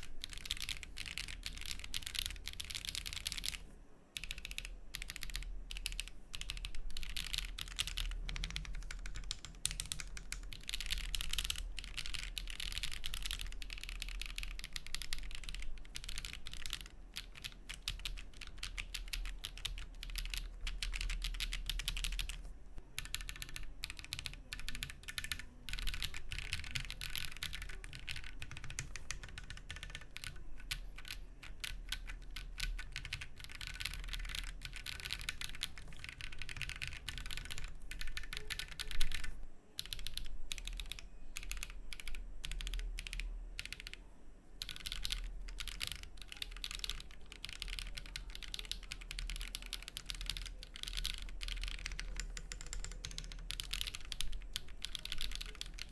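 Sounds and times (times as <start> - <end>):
mechanical keyboard typing: 0.0 - 3.6, 4.2 - 44.0, 44.6 - 55.9.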